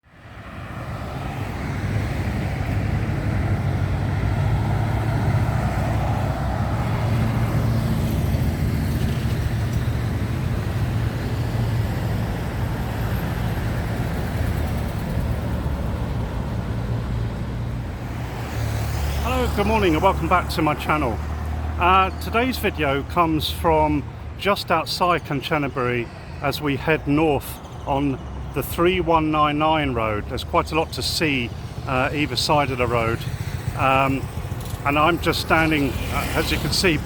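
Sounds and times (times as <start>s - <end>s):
highway traffic rumble: 0.0s - 37.0s.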